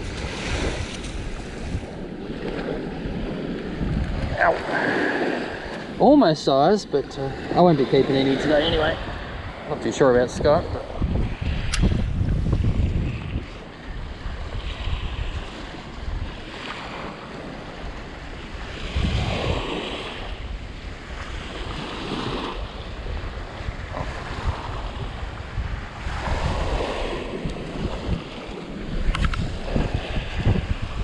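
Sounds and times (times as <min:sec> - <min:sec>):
small waves washing on sand: 0:00.0 - 0:31.0
wind rumbling on microphone: 0:00.0 - 0:31.0.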